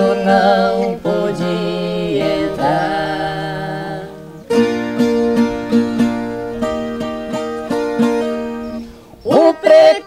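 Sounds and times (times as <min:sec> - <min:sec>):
plucked guitar melodic run: 0:00.0 - 0:09.2.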